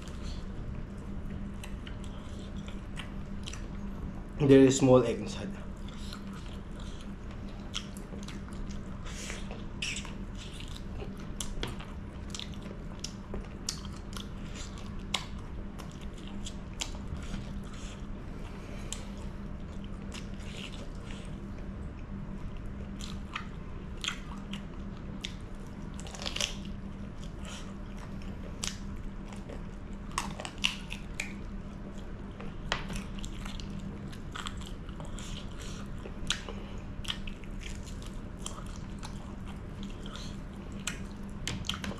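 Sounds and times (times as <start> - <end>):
steady low hum: 0.0 - 41.9
person chewing and biting food: 5.7 - 32.2, 32.8 - 41.9.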